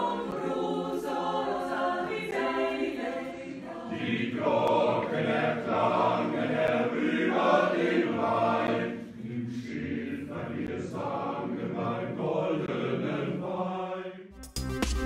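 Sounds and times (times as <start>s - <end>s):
men's choir singing: 0.0s - 14.3s.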